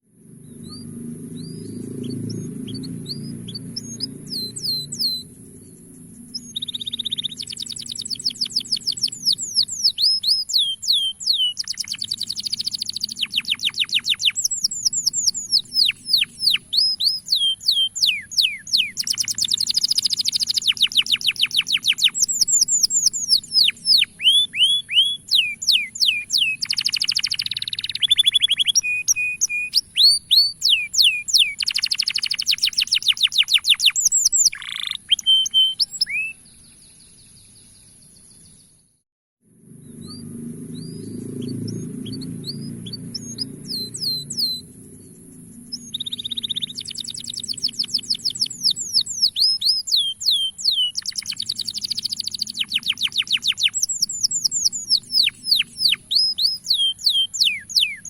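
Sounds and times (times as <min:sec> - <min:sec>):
canary singing trills: 0:00.3 - 0:38.7, 0:39.7 - 0:58.0.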